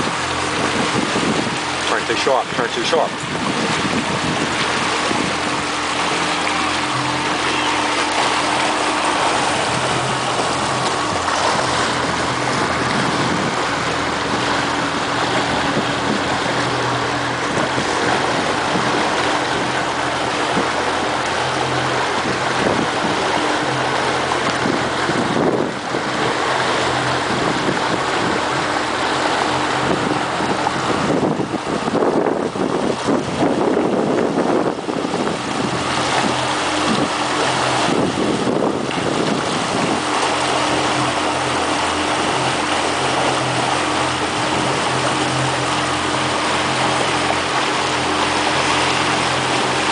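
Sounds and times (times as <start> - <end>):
motorboat engine running: 0.0 - 49.9
wake water rushing: 0.0 - 49.9
wind buffeting microphone: 0.0 - 49.9.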